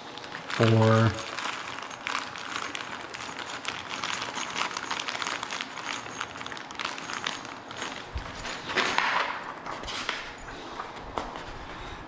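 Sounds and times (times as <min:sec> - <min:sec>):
packaging rustling: 0:00.0 - 0:10.4.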